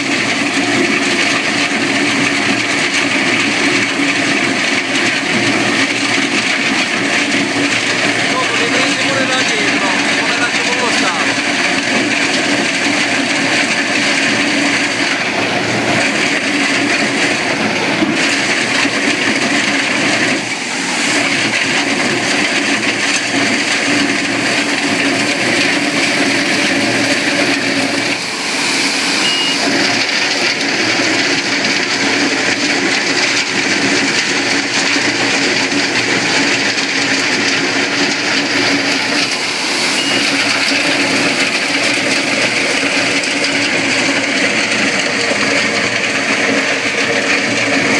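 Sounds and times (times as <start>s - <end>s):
engine hum: 0.0s - 47.9s
trencher grinding: 0.0s - 47.9s.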